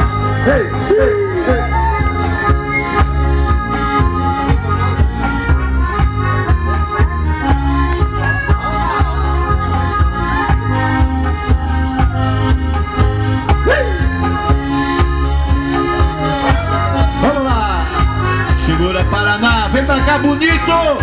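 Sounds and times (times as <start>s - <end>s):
electronic keyboard playing: 0.0s - 21.0s
steady beat with heavy bass: 0.0s - 21.0s.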